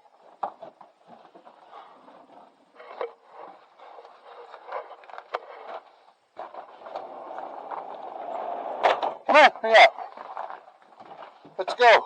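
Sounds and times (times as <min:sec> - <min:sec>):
scraping and handling noise: 0:00.0 - 0:12.0.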